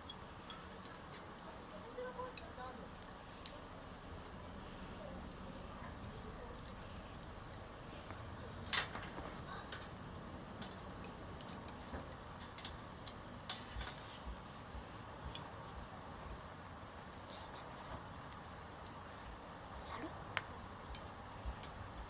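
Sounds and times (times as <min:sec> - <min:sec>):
sharp pops from fire: 0:00.0 - 0:22.0
wood fire crackling: 0:00.0 - 0:22.0.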